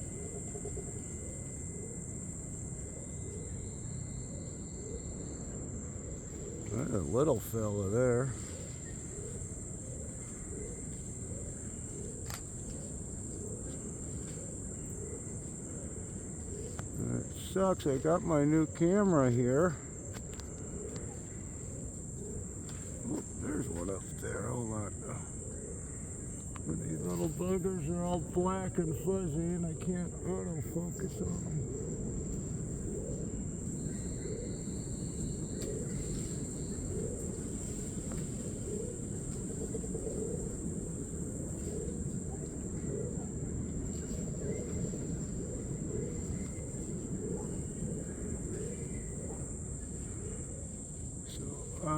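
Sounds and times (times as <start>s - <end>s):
high-pitched insect drone: 0.0s - 51.9s.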